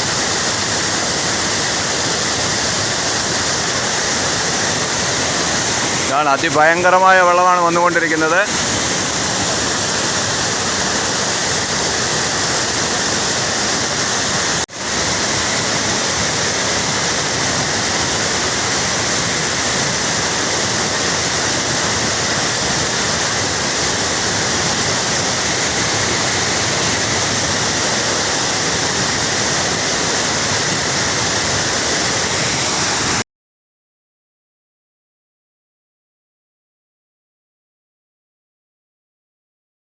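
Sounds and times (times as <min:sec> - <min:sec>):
mountain stream rushing: 0:00.0 - 0:33.2.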